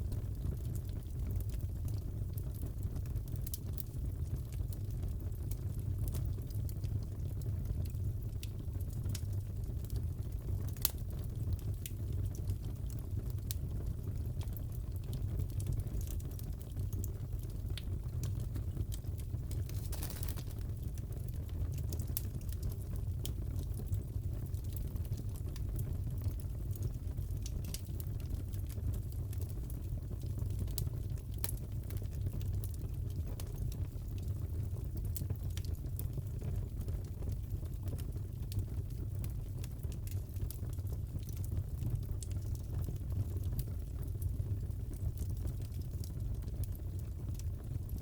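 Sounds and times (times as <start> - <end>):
fire rumbling: 0.0 - 48.0
wood fire popping and snapping: 0.0 - 48.0.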